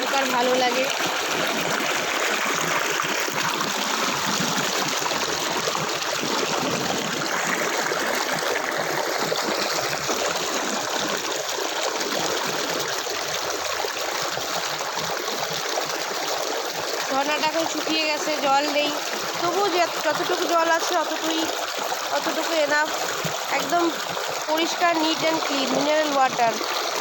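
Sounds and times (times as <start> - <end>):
water trickling over rocks: 0.0 - 27.0.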